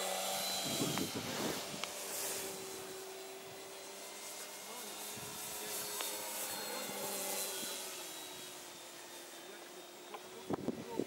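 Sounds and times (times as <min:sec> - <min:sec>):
model plane propeller drone: 0:00.0 - 0:11.0.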